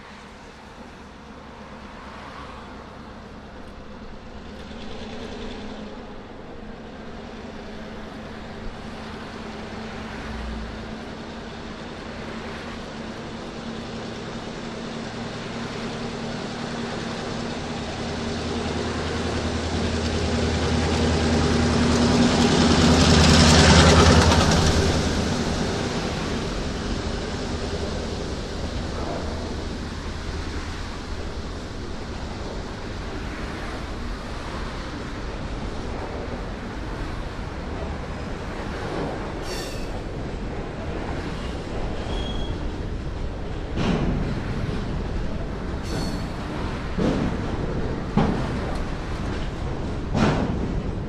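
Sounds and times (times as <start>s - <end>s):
diesel locomotive engine drone: 0.0s - 51.0s
freight cars rolling past: 0.0s - 51.0s.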